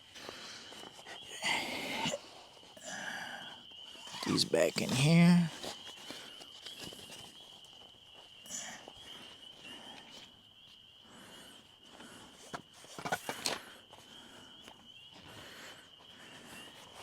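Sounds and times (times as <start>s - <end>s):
camping gear rustling: 0.0s - 17.0s
high insect trill: 0.0s - 17.0s.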